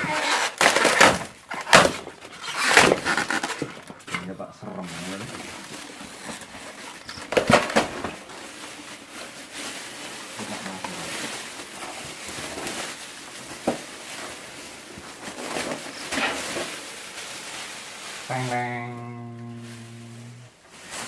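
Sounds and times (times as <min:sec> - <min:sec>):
packaging rustling: 0:00.0 - 0:21.0.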